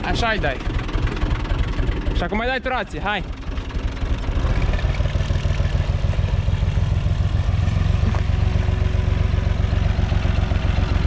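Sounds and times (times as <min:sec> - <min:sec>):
tractor diesel engine chugging: 0:00.0 - 0:11.0.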